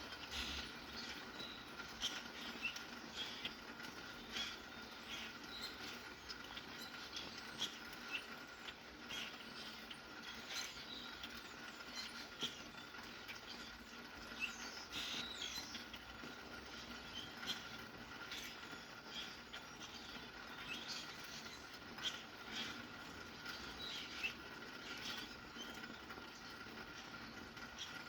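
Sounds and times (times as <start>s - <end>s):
small birds chirping: 0.0s - 28.0s
steady rain: 0.0s - 28.0s.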